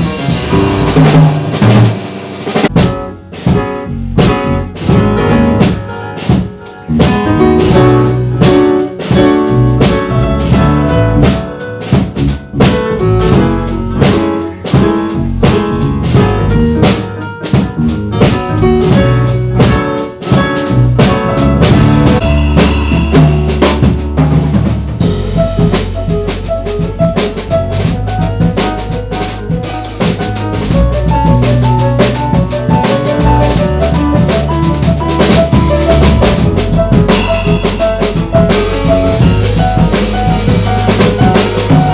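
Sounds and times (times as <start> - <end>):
busy drumming: 0.0 - 41.9
jazz piano trio: 0.0 - 41.9
walking bass line: 0.0 - 41.9.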